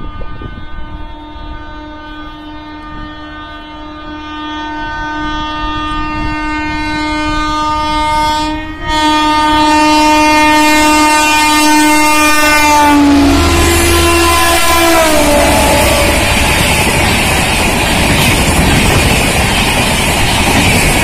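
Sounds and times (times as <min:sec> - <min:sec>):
train horn: 0:00.0 - 0:17.3
rush of passing train: 0:00.0 - 0:21.0.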